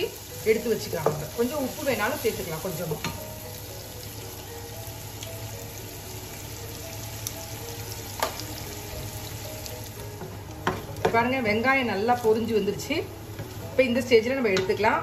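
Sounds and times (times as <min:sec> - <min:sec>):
onions sizzling in hot oil: 0:00.0 - 0:15.0
soft background music: 0:00.0 - 0:15.0.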